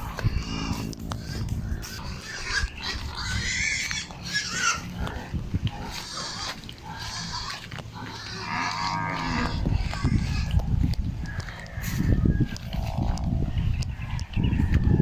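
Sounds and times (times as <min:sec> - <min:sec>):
farm animals calling: 0:00.0 - 0:15.0
low rumble: 0:00.0 - 0:15.0.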